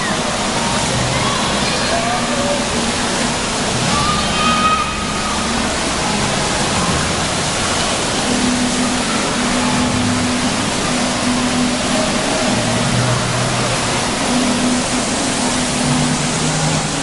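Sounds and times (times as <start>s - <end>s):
water pouring and splashing: 0.0s - 17.0s.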